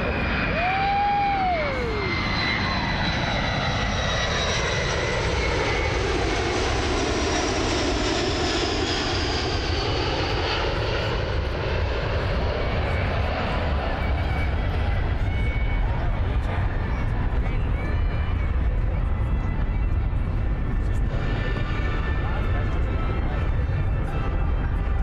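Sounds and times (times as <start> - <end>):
jet aircraft roar and whine: 0.0 - 25.0.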